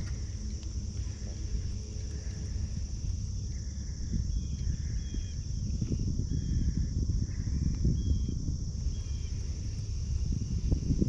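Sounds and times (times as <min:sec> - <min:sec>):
insect chorus: 0:00.0 - 0:11.0
low rumble: 0:00.0 - 0:11.0.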